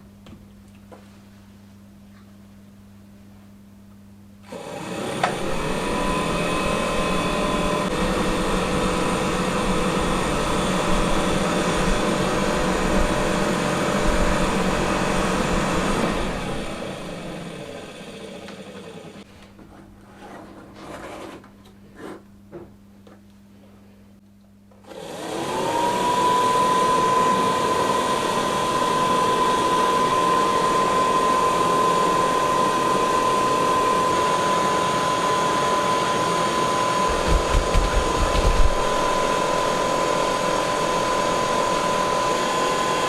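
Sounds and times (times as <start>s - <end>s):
heater blower fan whirring: 2.6s - 20.1s, 24.6s - 43.0s.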